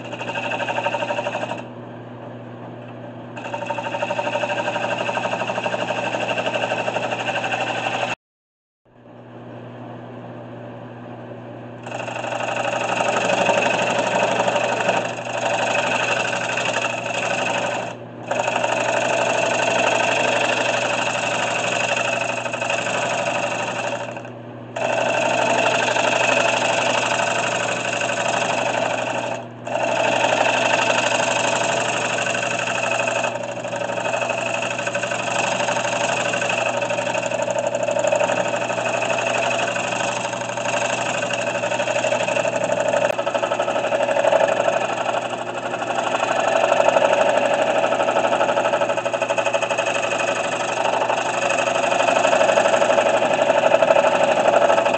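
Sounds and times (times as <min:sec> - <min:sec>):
lathe tool scraping wood: 0:00.0 - 0:01.7, 0:03.4 - 0:08.2, 0:11.8 - 0:54.9
lathe motor hum: 0:00.0 - 0:01.8, 0:02.6 - 0:08.2, 0:11.8 - 0:54.9.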